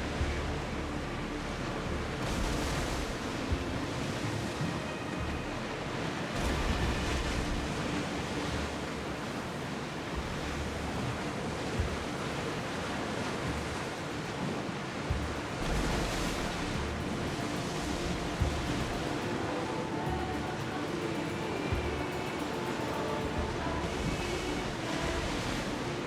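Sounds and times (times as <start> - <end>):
sea waves washing: 0.0 - 26.0.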